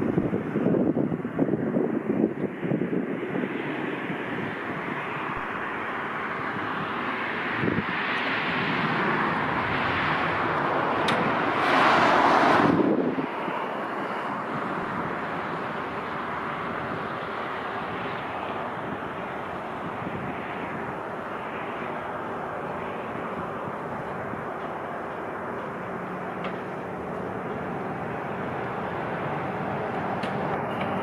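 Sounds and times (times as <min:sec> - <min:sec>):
jet engine rushing: 0:00.0 - 0:31.0
wind buffeting microphone: 0:00.0 - 0:31.0.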